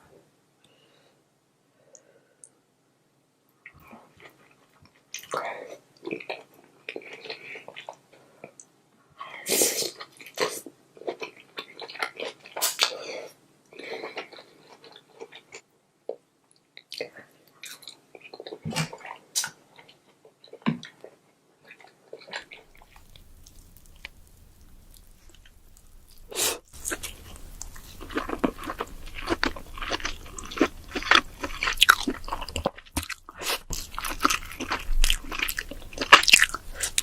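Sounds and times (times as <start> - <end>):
chewing and wet mouth sounds: 3.6 - 8.7, 9.9 - 13.0, 13.7 - 37.0.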